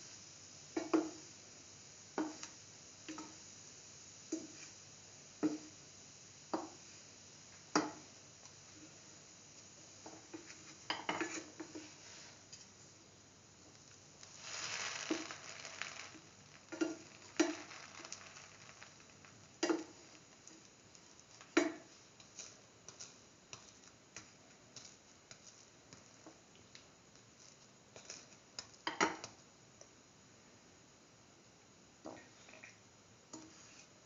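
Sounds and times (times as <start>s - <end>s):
sandwich sizzling in oil: 0.0s - 29.5s.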